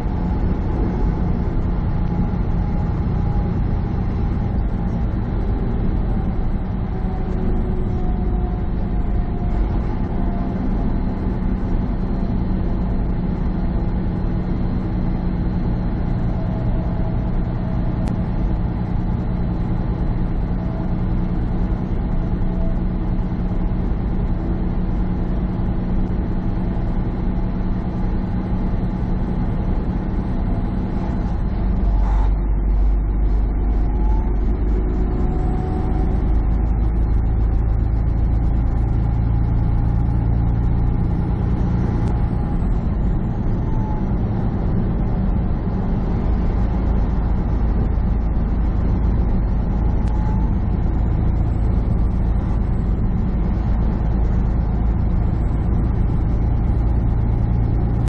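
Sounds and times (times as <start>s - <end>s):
truck engine and tyres droning: 0.0s - 58.0s.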